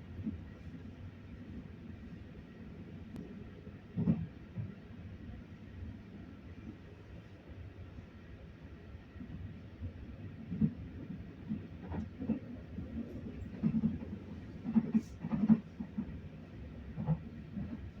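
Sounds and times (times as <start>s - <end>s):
railway carriage rumble: 0.0s - 18.0s.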